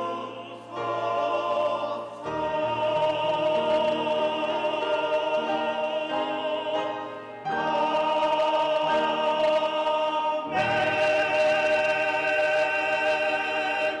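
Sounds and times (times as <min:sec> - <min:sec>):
church choir singing: 0:00.0 - 0:14.0.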